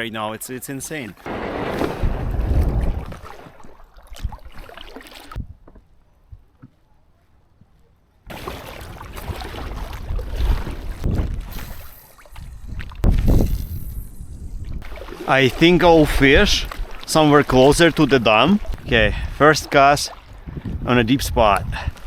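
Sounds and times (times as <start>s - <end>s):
water splashing: 1.0s - 5.4s, 8.3s - 22.0s.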